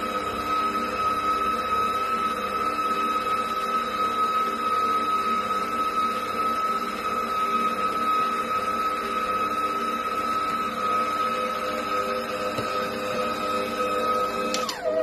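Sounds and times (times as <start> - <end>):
electric mixer motor whine: 0.0 - 15.0.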